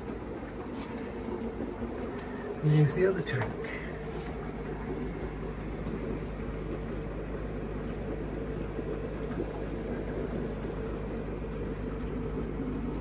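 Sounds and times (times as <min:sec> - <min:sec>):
constant hiss: 0:00.0 - 0:13.0
fish tank pump hum: 0:00.0 - 0:13.0.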